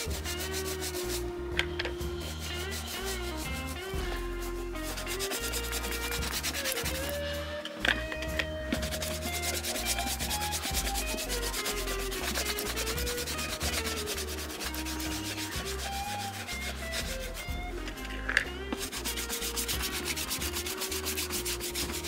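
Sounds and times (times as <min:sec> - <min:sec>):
brush scrubbing leather boots: 0:00.0 - 0:01.3, 0:02.2 - 0:07.2, 0:08.7 - 0:18.1, 0:18.8 - 0:22.0
soft background music: 0:00.0 - 0:22.0.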